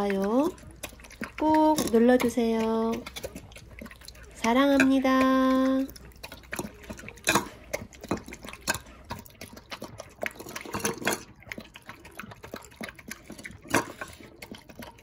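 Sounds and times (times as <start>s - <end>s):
dog lapping and slurping: 0.0s - 15.0s.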